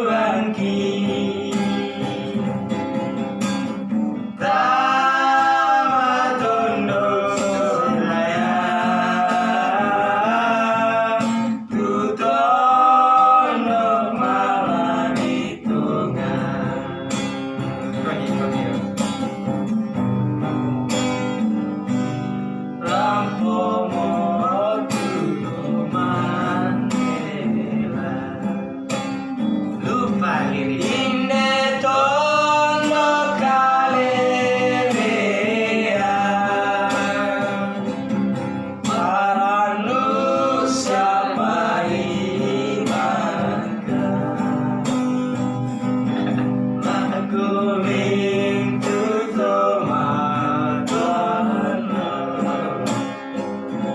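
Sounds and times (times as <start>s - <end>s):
person singing: 0.0s - 2.7s, 4.2s - 17.4s, 22.8s - 28.7s, 29.7s - 53.9s
acoustic guitar chords: 0.0s - 53.9s.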